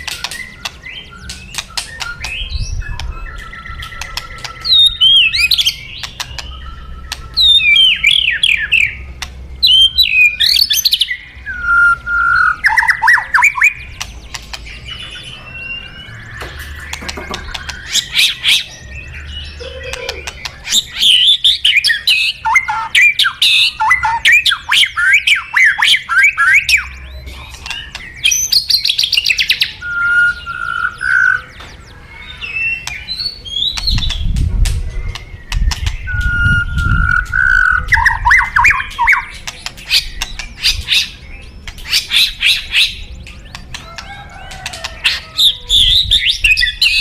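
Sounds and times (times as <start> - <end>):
songbird singing varied song: 0.0 - 47.0.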